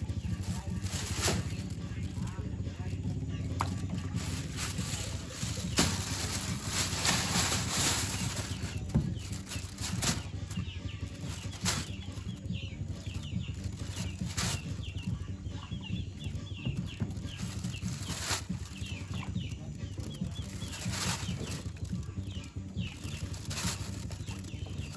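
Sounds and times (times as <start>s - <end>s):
plastic bag crinkling: 0.3s - 2.4s, 3.6s - 12.5s, 13.1s - 15.0s, 17.1s - 22.3s, 22.9s - 24.9s.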